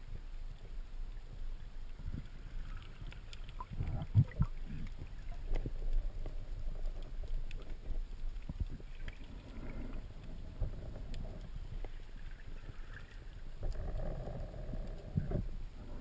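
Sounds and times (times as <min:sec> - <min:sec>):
water sloshing and gurgling: 0:00.0 - 0:16.0.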